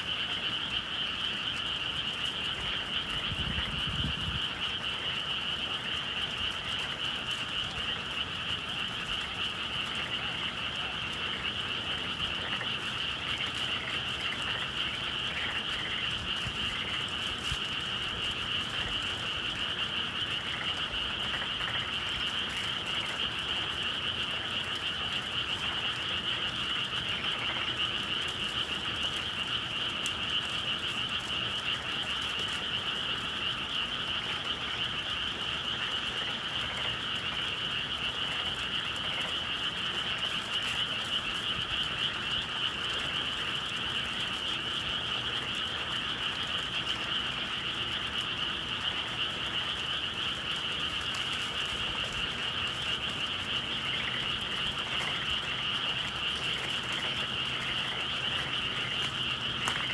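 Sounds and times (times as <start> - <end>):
frogs chorus trilling: 0.0 - 59.9.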